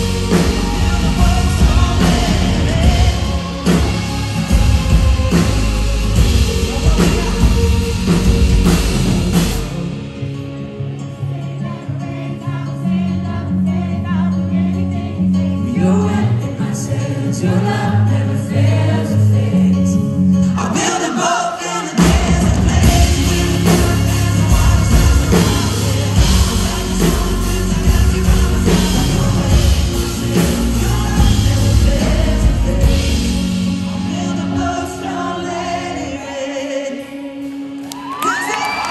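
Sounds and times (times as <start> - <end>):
person singing: 0.0 - 9.0, 9.6 - 38.9
live band playing: 0.0 - 38.9.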